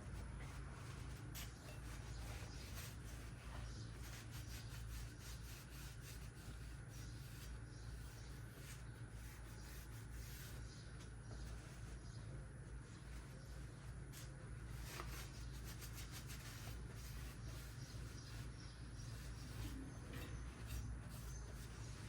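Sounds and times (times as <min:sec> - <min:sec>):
steady low hum: 0:00.0 - 0:22.0
faint rubbing and scraping: 0:00.1 - 0:22.0.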